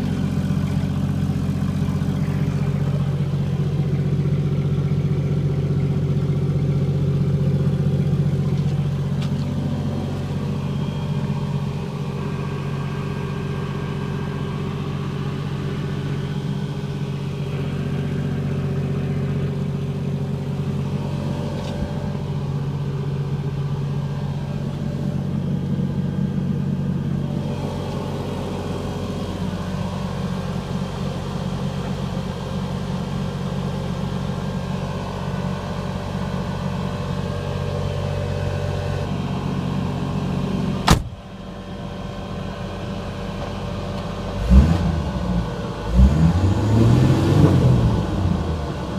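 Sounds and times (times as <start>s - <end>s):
car engine running at low speed: 0.0s - 48.9s.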